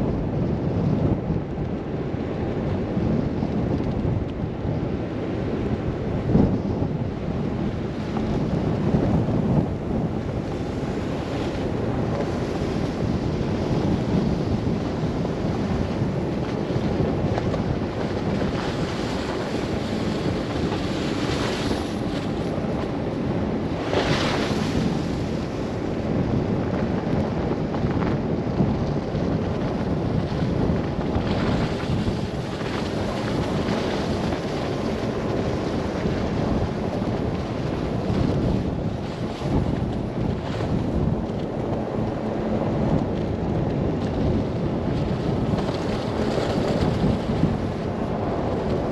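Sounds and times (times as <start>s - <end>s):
wind buffeting car and microphone: 0.0s - 48.9s
gust of wind whoosh: 5.8s - 48.9s.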